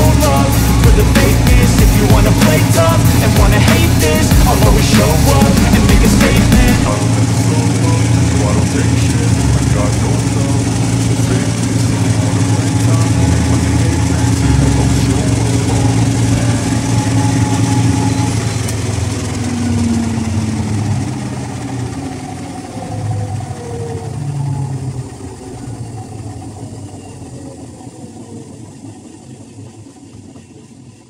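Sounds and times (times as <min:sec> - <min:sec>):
washing machine motor winding down: 0:00.0 - 0:31.0.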